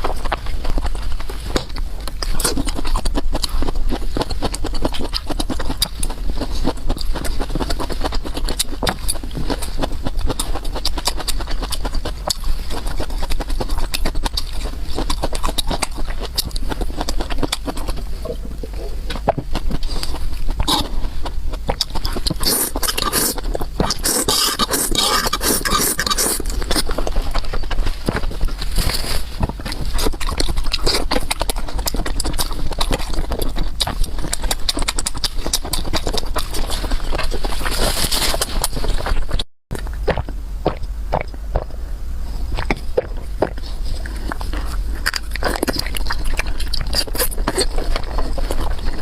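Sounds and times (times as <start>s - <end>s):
chewing and mouth clicks: 0.0s - 41.8s, 42.4s - 49.0s
low hum: 0.0s - 49.0s.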